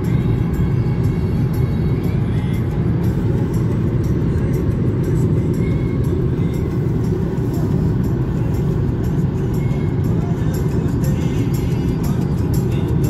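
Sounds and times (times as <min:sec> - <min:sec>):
car road and engine rumble: 0:00.0 - 0:13.0
music playing in car: 0:00.0 - 0:13.0.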